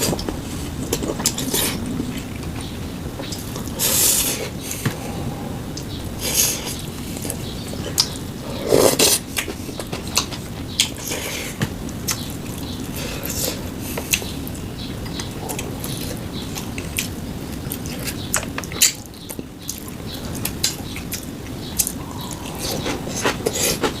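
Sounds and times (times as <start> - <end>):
person chewing: 0.0 - 24.0.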